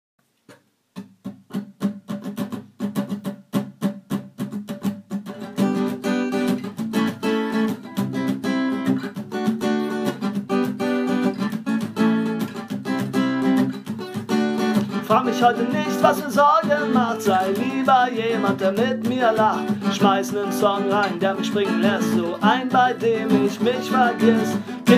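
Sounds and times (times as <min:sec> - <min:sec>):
acoustic guitar strumming: 0:01.0 - 0:24.9.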